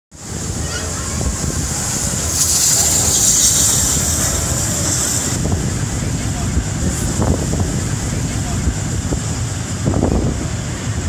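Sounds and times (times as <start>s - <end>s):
steam hiss: 0.2s - 11.0s
steam locomotive rumble: 0.2s - 11.0s.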